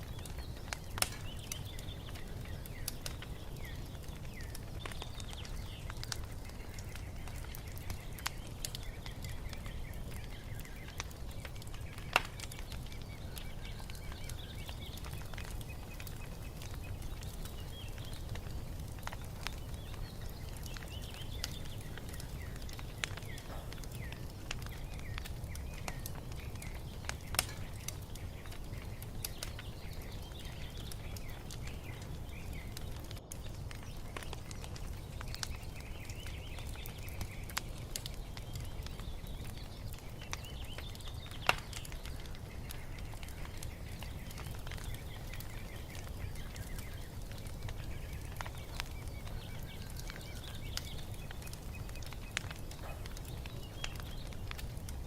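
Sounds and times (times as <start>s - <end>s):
fire popping: 0.0s - 55.0s
small birds chirping: 0.0s - 55.0s
wood fire crackling: 0.0s - 55.0s.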